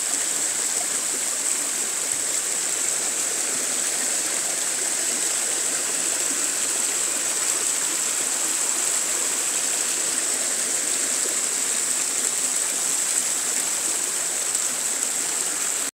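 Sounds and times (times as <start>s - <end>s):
stream flowing over rocks: 0.0s - 15.9s.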